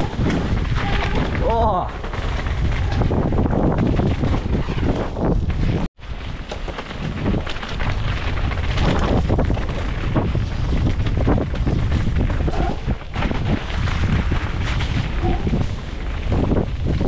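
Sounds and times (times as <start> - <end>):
bike knocks and rattles: 0.0 - 17.0
tyres rumbling on dirt: 0.0 - 17.0
wind buffeting microphone: 0.0 - 17.0.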